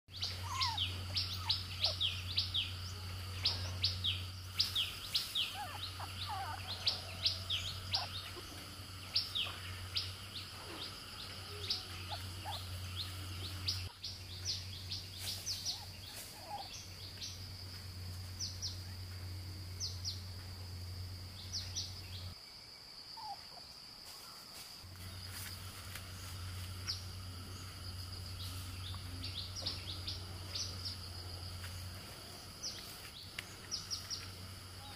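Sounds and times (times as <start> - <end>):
high-pitched insect drone: 0.1 - 23.4, 24.0 - 34.9
wild birds chirping: 0.1 - 34.9.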